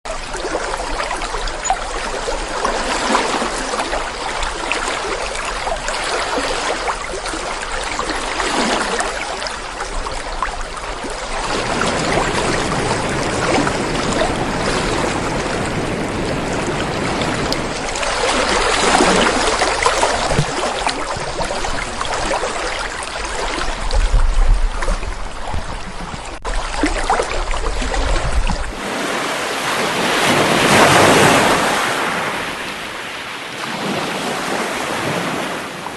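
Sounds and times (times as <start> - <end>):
rushing water: 0.0 - 35.9
wind rumble on microphone: 0.1 - 33.1.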